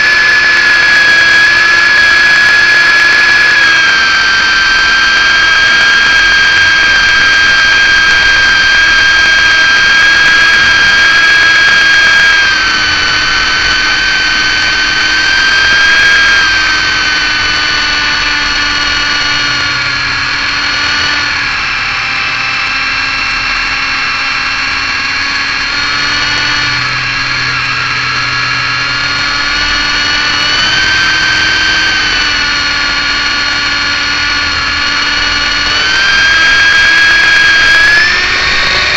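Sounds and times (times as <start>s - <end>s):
helicopter electric motors whining: 0.0s - 38.9s.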